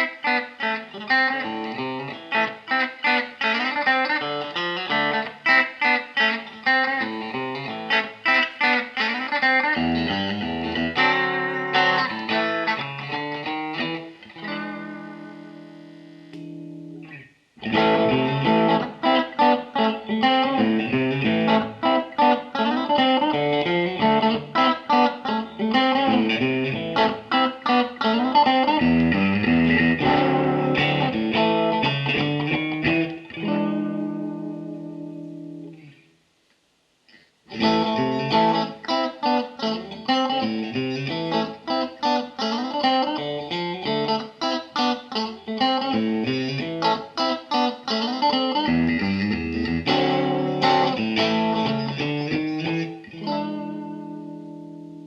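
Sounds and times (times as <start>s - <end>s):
electric guitar picking: 0.0s - 36.0s, 37.1s - 55.0s
guitar chord ringing: 0.0s - 36.0s, 37.5s - 55.0s.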